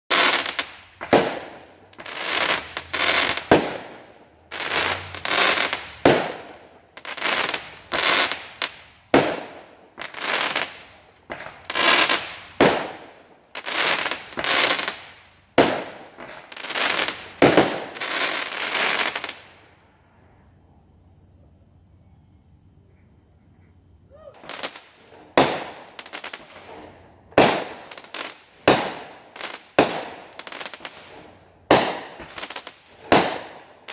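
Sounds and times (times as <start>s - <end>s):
fireworks banging: 0.1s - 19.6s, 24.4s - 33.9s.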